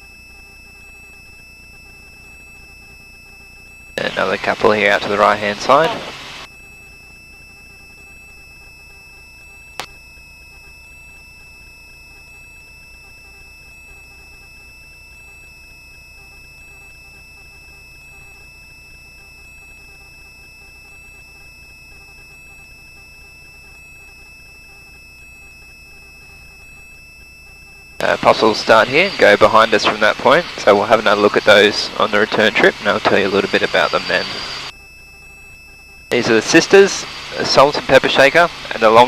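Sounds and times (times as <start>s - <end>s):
helicopter cabin whine: 0.0s - 39.0s
low hum: 0.0s - 39.0s.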